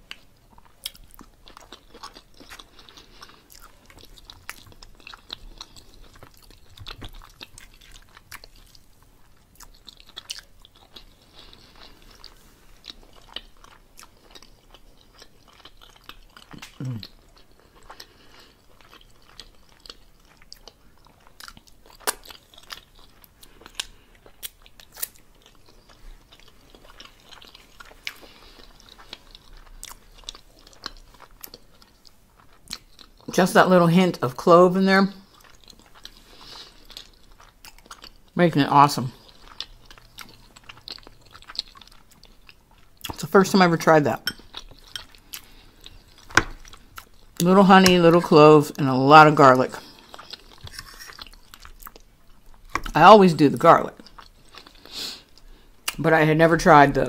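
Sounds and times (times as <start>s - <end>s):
wet chewing and lip-smacking: 0.0s - 33.4s, 35.1s - 43.4s, 44.1s - 56.2s.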